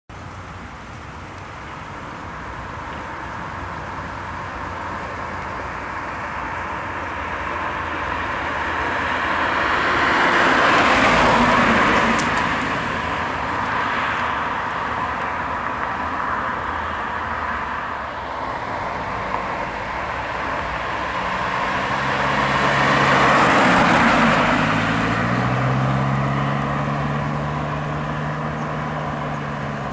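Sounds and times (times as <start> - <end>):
car driving past: 3.0 - 29.9.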